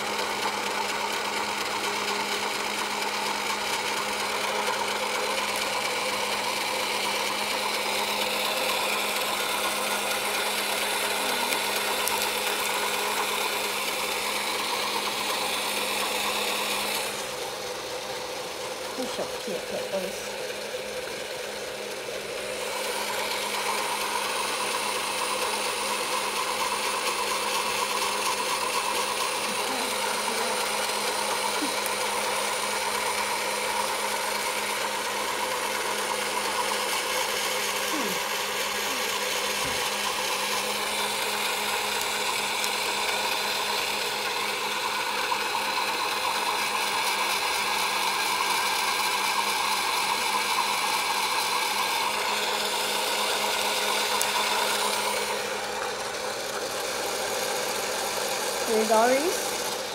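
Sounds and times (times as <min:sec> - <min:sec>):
small electric motor whirring: 0:00.0 - 0:59.9.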